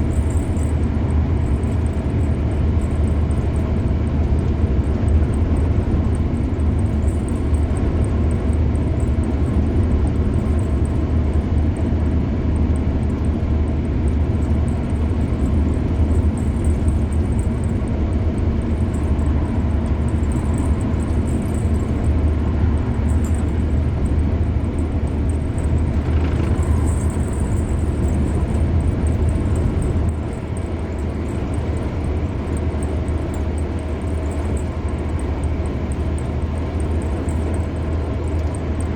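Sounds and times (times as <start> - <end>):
car engine running: 0.0 - 38.9
tyres rumbling on road: 0.0 - 38.9.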